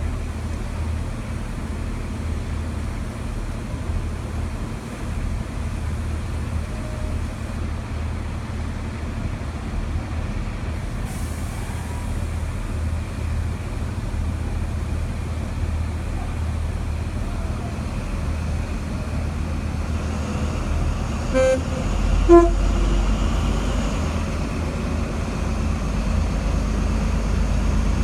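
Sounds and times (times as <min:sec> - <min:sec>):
diesel engines humming: 0:00.0 - 0:28.0.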